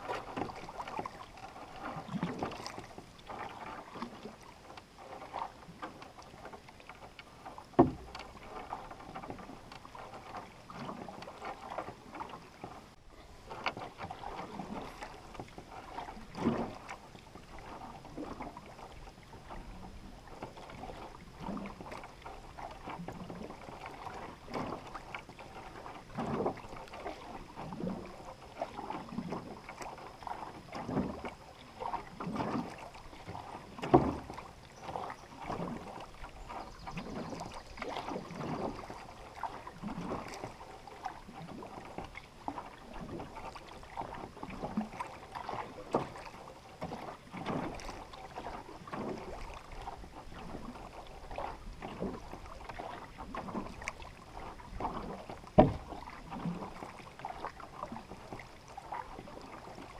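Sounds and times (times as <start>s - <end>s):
paddle swishing in water: 0.0s - 59.9s
water running along hull: 0.0s - 59.9s.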